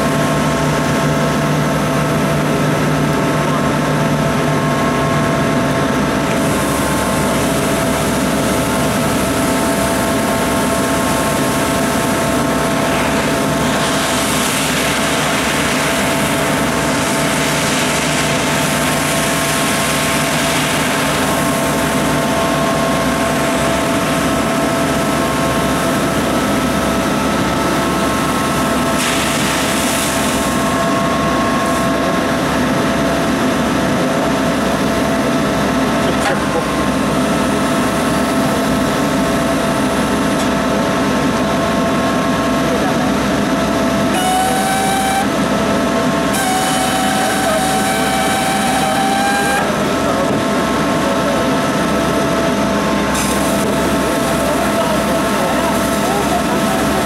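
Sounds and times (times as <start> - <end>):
fire truck engine and pump drone: 0.0 - 57.0.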